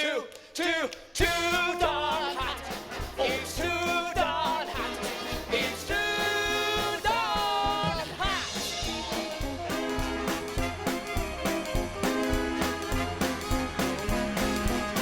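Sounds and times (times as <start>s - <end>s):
drum hits: 1.2s - 15.0s
swing jazz band music: 1.2s - 15.0s.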